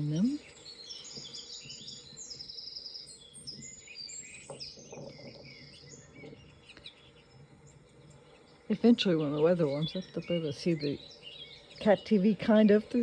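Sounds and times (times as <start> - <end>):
songbirds chirping and trilling: 0.0 - 13.0.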